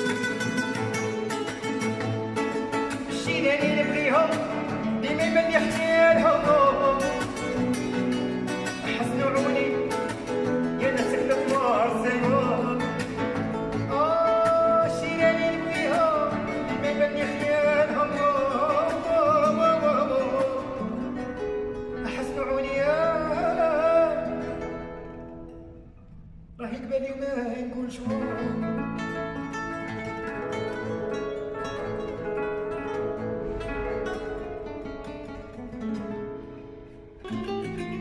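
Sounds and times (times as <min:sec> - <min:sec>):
song with plucked strings: 0:00.0 - 0:26.6, 0:28.0 - 0:38.0.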